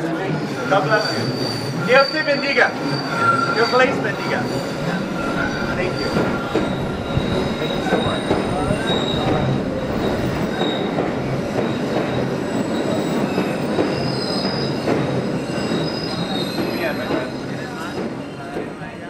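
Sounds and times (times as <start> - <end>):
subway train rumbling: 0.0 - 19.0
train wheels squealing: 0.0 - 19.0.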